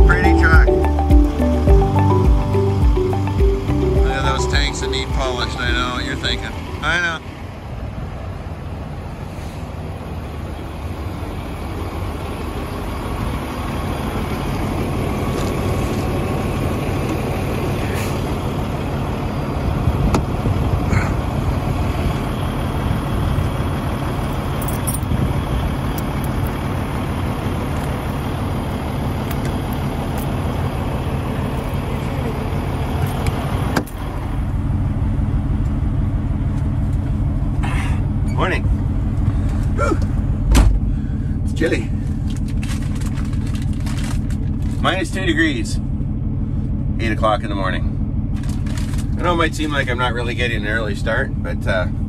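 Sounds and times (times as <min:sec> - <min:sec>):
truck diesel engine idling: 0:00.0 - 0:52.0.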